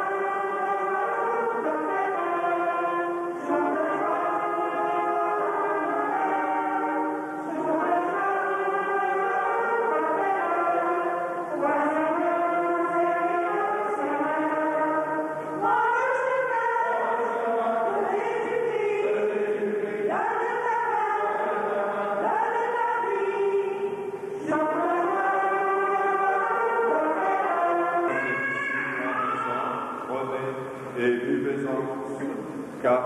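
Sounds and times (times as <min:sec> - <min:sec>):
church choir singing: 0:00.0 - 0:33.0.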